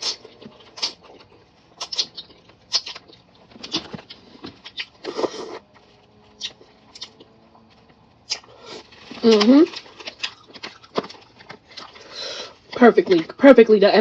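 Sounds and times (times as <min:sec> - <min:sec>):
chewing and lip-smacking: 0:00.0 - 0:12.7.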